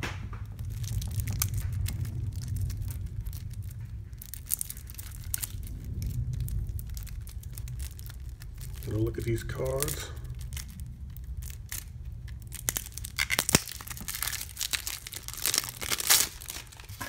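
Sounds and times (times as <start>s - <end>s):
low steady hum: 0.0s - 17.0s
wrapping tearing and crinkling: 0.0s - 17.0s.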